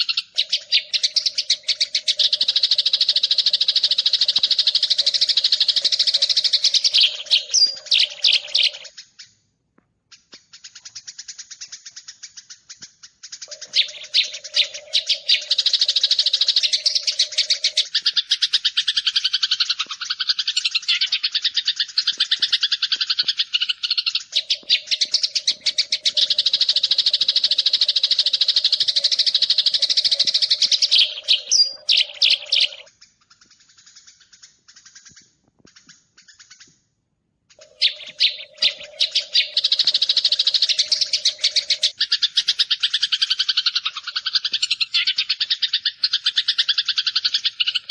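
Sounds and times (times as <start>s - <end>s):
sparrows chirping: 0.0s - 9.4s, 10.1s - 36.8s, 37.5s - 47.9s.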